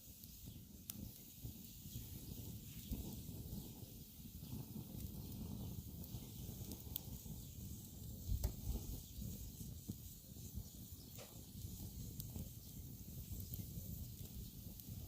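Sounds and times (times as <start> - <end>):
fire crackles and pops: 0.0 - 15.0
fire low rumble: 0.0 - 15.0.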